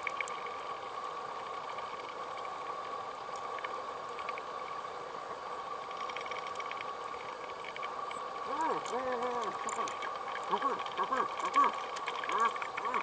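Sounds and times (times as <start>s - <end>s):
steady underwater hum: 0.0s - 13.0s.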